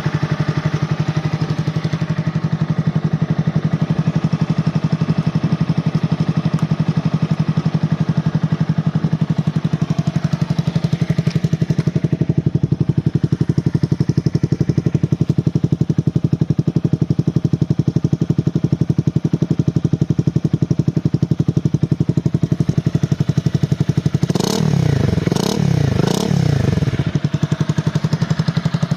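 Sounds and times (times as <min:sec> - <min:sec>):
motorcycle idling and revving: 0:00.0 - 0:28.9.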